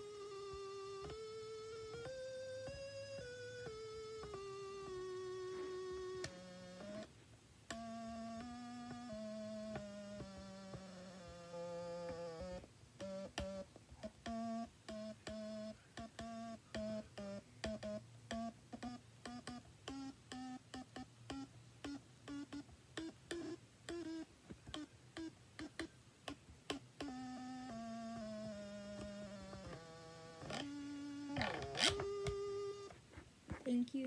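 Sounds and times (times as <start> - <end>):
stylophone playing buzzy notes: 0.0 - 33.0.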